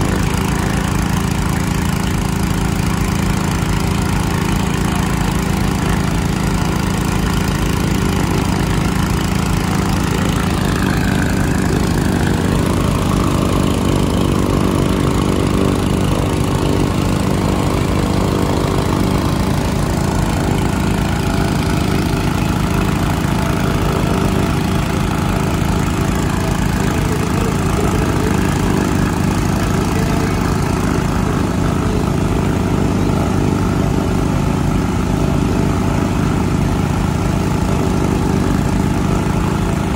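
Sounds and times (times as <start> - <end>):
small pump engine running: 0.0 - 39.9.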